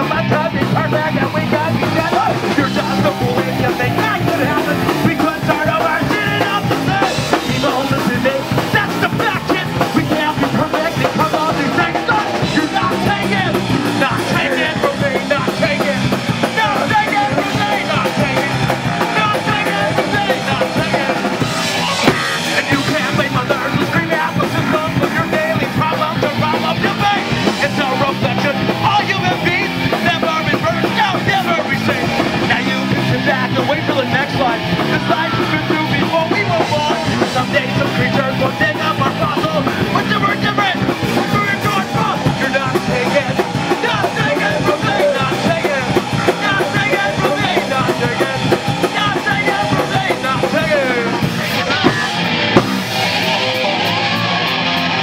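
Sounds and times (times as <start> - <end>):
live punk band playing: 0.0 - 55.0
singer shouting: 0.0 - 55.0.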